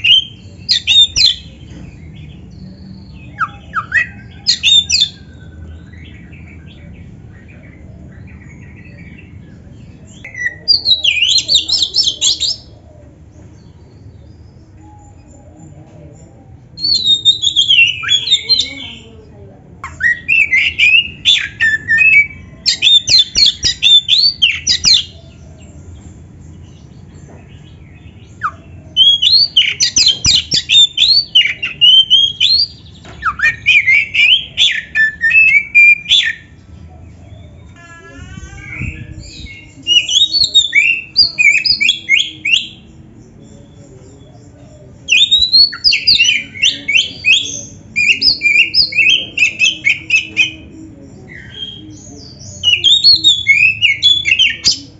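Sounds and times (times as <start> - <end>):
bird singing varied song: 0.0 - 54.9.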